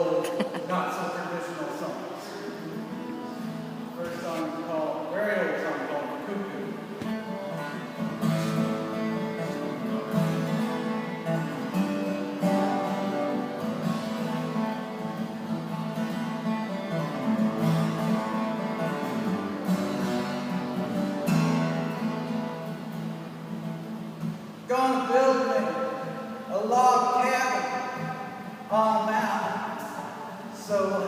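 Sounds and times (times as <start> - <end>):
acoustic guitar chords: 0.0 - 31.0.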